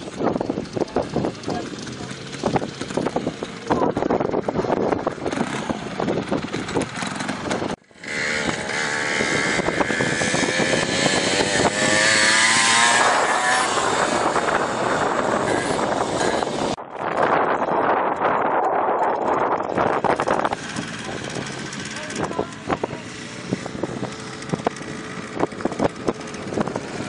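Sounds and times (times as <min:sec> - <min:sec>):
dirt bike engine: 0:00.0 - 0:27.0.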